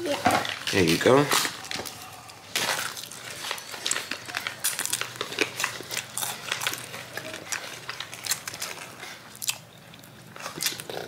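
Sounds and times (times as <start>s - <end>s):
crispy chicken crunching: 0.4s - 11.0s.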